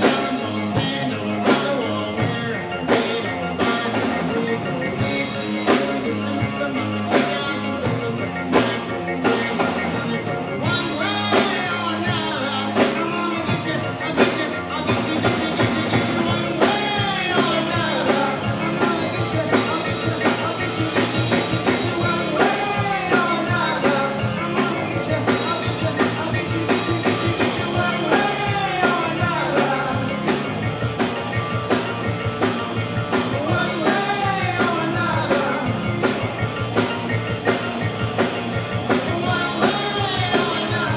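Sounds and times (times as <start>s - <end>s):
lead singer singing: 0.0s - 40.9s
live rock band playing: 0.0s - 40.9s.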